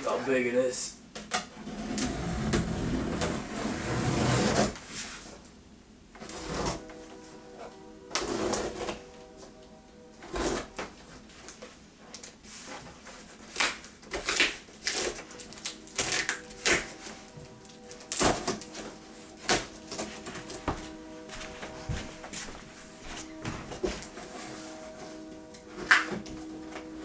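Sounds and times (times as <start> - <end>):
quiet background music: 0.0 - 27.0.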